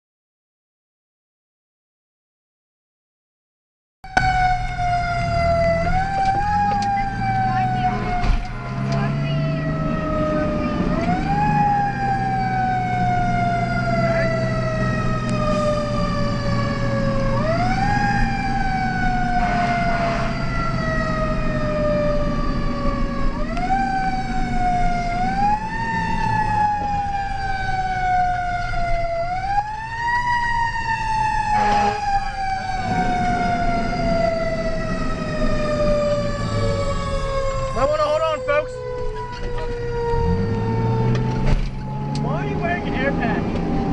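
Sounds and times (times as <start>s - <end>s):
fire engine siren: 4.0s - 43.9s
truck engine drone: 4.1s - 43.9s.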